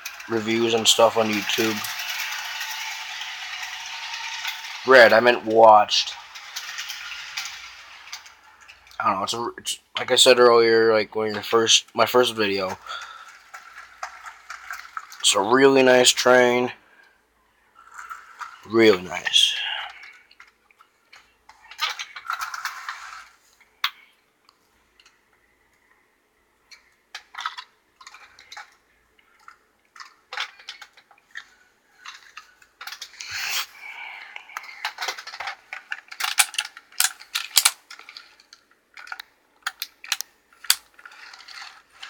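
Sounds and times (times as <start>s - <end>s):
plastic and metal parts clattering: 0.0s - 10.4s, 11.2s - 16.7s, 17.8s - 24.2s, 26.7s - 42.0s.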